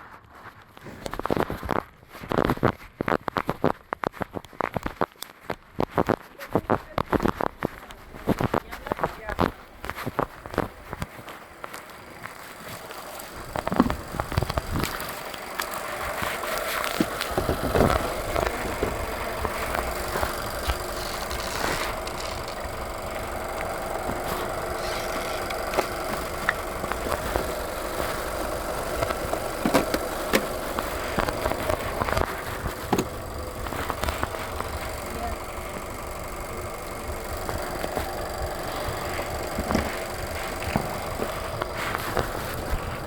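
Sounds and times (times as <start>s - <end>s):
sharp clicks and knocks: 4.5s - 43.0s
car engine idling: 6.4s - 43.0s.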